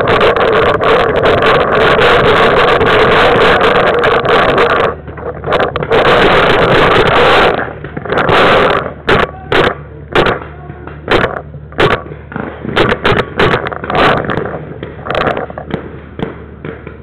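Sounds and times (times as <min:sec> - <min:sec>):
loud rushing rumbling noise: 0:00.0 - 0:17.0
short sharp pops: 0:02.9 - 0:17.0.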